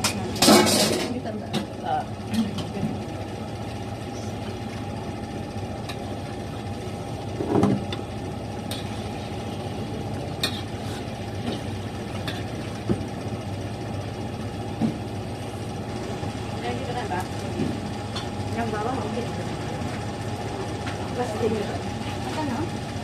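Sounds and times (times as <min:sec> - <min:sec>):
kitchen fan drone: 0:00.0 - 0:23.0.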